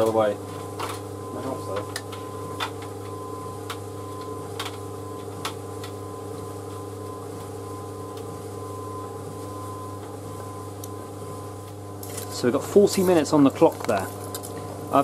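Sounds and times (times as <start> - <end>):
tumble dryer running: 0.0 - 15.0.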